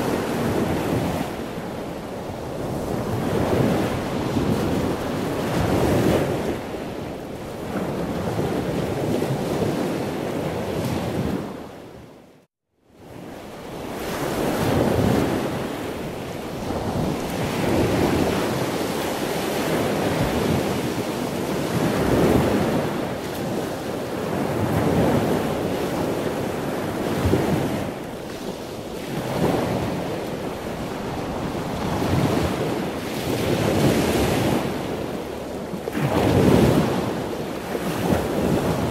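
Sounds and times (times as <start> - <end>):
ocean waves breaking: 0.0 - 11.7, 13.1 - 38.9.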